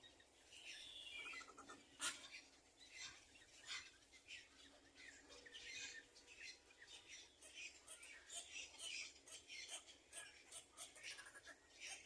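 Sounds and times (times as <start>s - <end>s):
faint bird chirps and calls: 0.0s - 12.0s.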